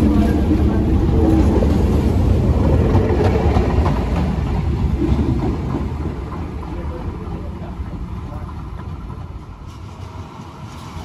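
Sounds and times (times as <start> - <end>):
train rumbling away: 0.0 - 11.0.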